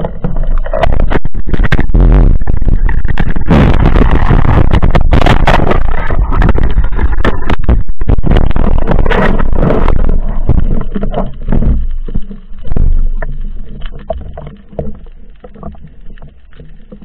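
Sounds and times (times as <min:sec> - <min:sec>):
muffled water rushing: 0:00.0 - 0:17.0.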